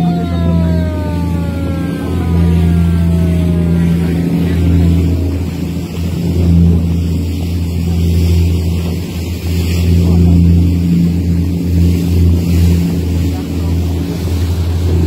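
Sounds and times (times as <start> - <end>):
motorboat engine humming: 0.0 - 15.0
wind and water hiss: 2.9 - 15.0.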